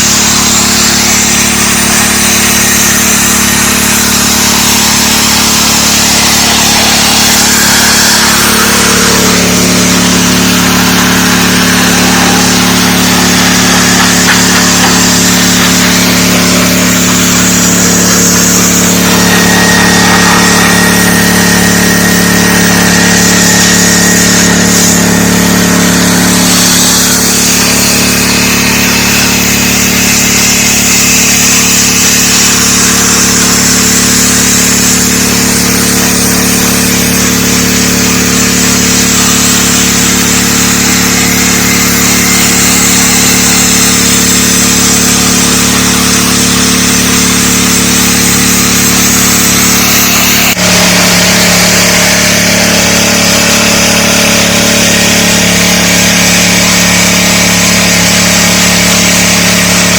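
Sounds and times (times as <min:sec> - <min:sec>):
high-pressure water spray hissing: 0:00.0 - 0:59.9
pressure washer engine running: 0:00.0 - 0:59.9.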